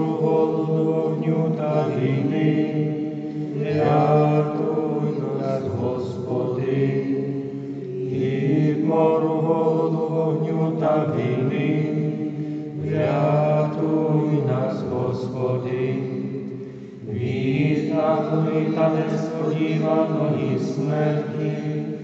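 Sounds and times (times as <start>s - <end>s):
voices singing a hymn: 0.0s - 22.0s.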